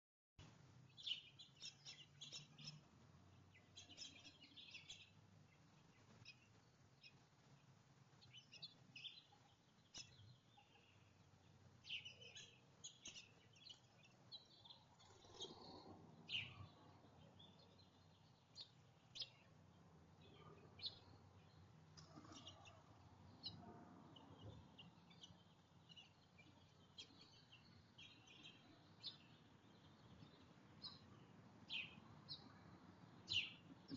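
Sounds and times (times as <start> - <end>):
small songbirds chirping: 0.4 - 33.9.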